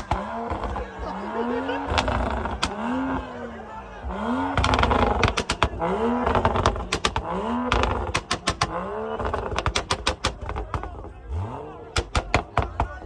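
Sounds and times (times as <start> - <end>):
exhaust pops and cracks: 0.0 - 3.3, 4.0 - 13.0
sports car engine revving: 0.0 - 13.0.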